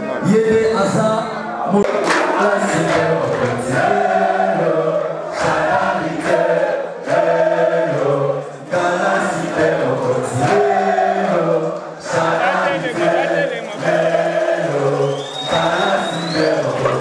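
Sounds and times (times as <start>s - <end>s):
group chanting in unison: 1.8s - 17.0s.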